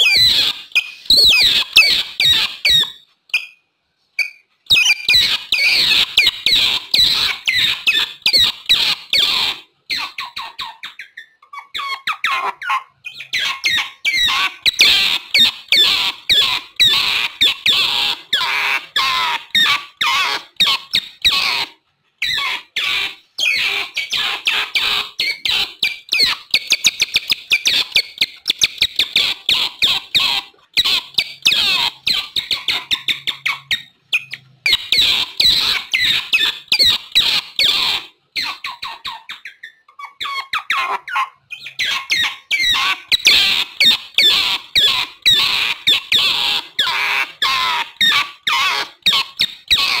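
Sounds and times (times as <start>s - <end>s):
otters chirping and squeaking: 0.0s - 50.0s.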